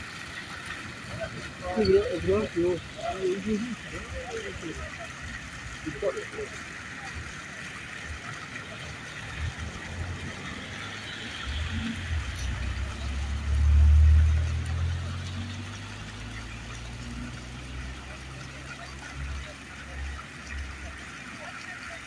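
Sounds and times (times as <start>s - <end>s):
car engine rumble passing: 0.0s - 21.0s
fountain jets splashing: 0.0s - 22.0s.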